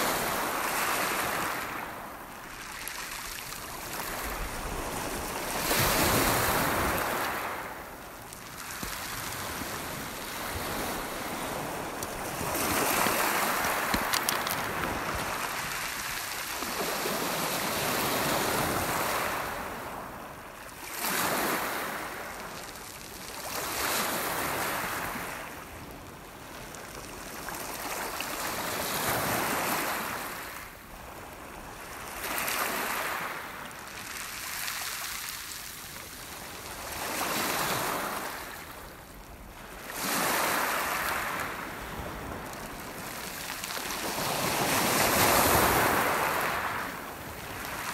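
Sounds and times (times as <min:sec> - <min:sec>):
waves breaking on pebble shore: 0:00.0 - 0:30.6, 0:31.6 - 0:47.9.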